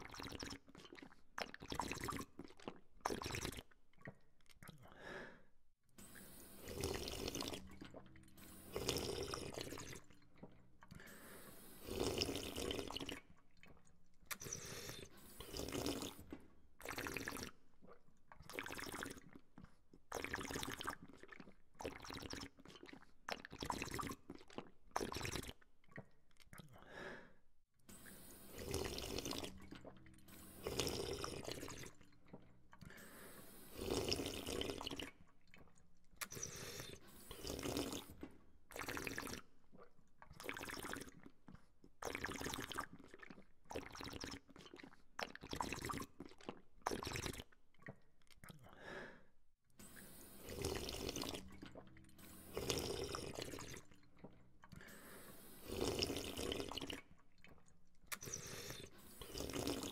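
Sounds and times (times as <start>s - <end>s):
person sipping water: 0.0s - 59.9s.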